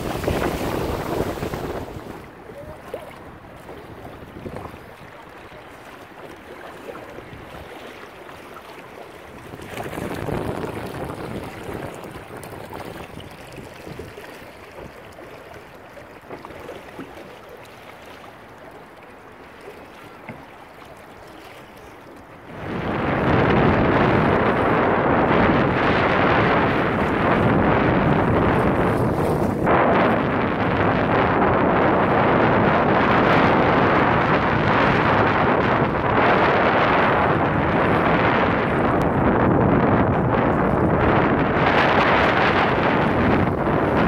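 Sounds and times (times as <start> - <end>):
wind buffeting microphone: 0.0 - 17.4, 22.2 - 44.0
water splashing along boat hull: 0.0 - 44.0.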